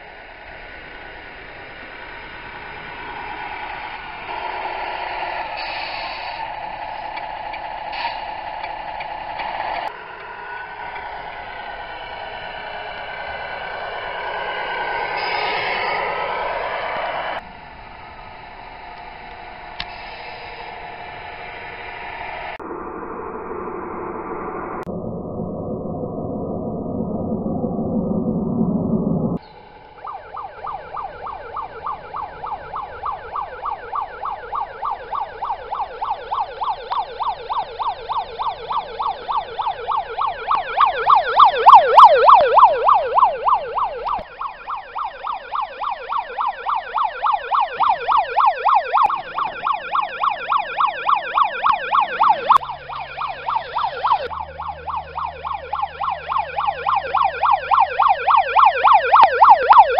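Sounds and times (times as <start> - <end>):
electronic police siren wailing: 0.0 - 59.9.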